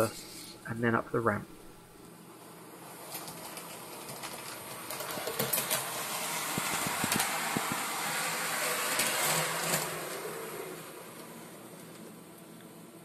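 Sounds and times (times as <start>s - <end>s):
model train motor and wheels: 0.0s - 0.7s, 3.0s - 13.0s.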